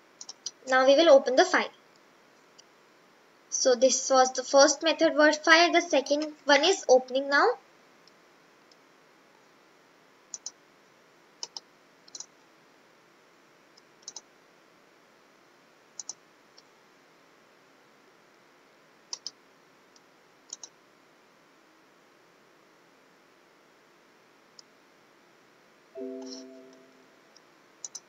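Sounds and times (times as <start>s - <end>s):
faint room hiss: 0.0s - 28.0s.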